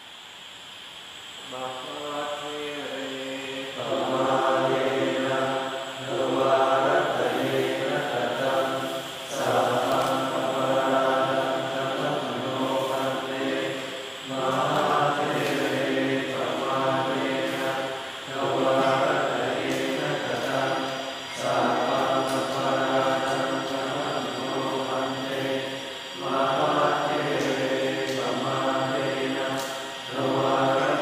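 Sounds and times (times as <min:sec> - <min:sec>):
monks chanting together: 0:01.4 - 0:31.0.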